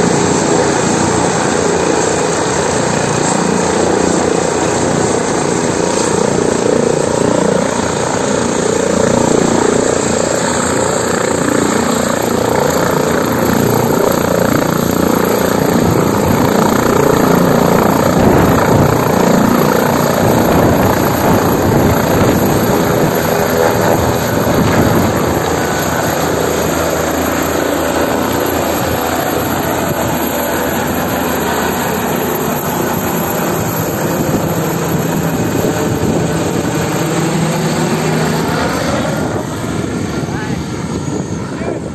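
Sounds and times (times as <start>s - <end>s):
helicopter rotor and turbine: 0.0s - 41.9s.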